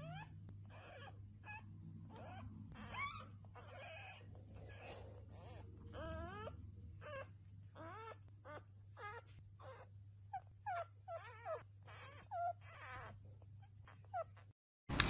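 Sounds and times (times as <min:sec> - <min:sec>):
dog whimpering: 0:00.0 - 0:14.5.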